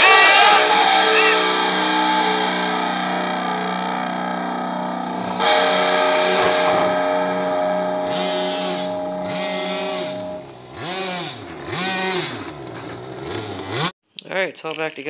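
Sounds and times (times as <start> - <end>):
distorted electric guitar chords: 0.0 - 12.9.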